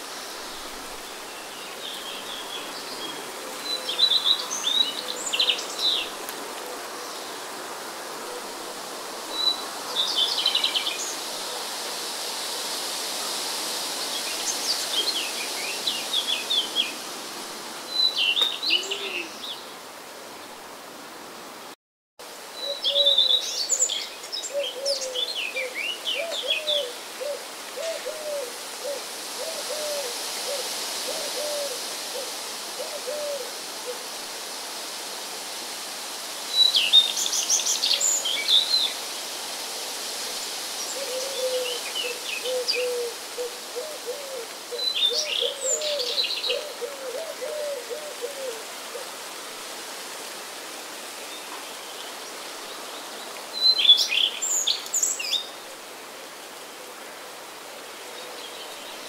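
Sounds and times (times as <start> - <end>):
soft steady hiss: 0.0 - 59.0.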